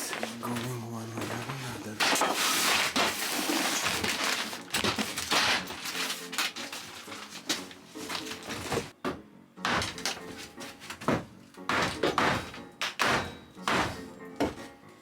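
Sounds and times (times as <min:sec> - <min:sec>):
hard objects clattering and rattling: 0:00.0 - 0:09.0, 0:09.6 - 0:14.7.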